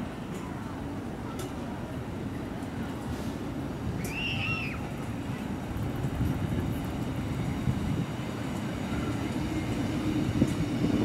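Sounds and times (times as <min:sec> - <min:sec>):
diesel train passing slowly: 0:00.0 - 0:11.0.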